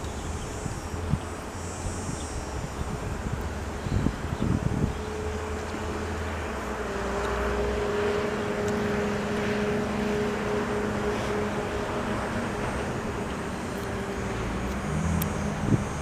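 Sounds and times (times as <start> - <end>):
train locomotive humming: 0.0 - 16.0
wind buffeting microphone: 0.0 - 16.0.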